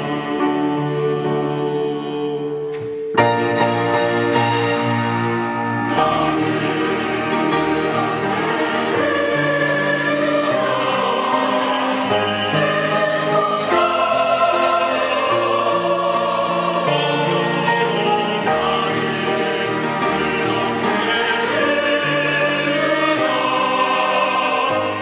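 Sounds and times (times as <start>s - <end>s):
mixed choir singing: 0.0s - 25.0s.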